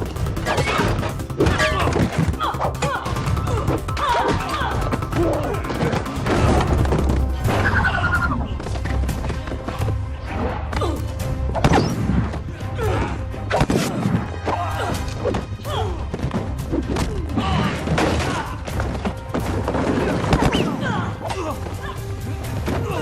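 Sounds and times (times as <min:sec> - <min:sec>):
action music score: 0:00.0 - 0:23.0.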